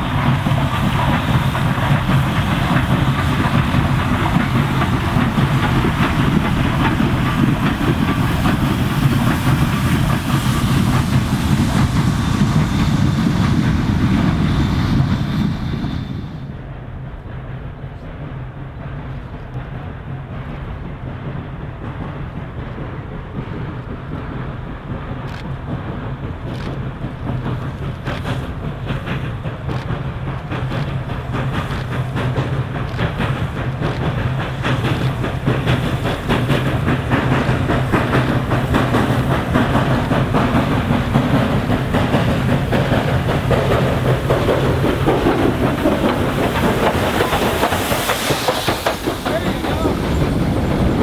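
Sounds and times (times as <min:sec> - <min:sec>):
wheels clicking over rail joints: 0:00.0 - 0:14.4, 0:19.0 - 0:51.0
train engine hum: 0:00.0 - 0:51.0.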